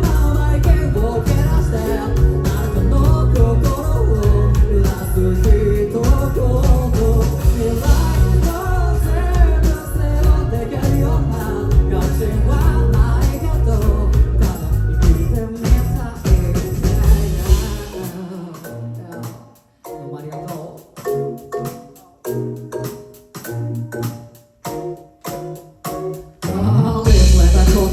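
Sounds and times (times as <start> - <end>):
rock band playing live: 0.0 - 18.4, 21.1 - 27.9
person singing: 0.0 - 23.0, 25.4 - 27.9.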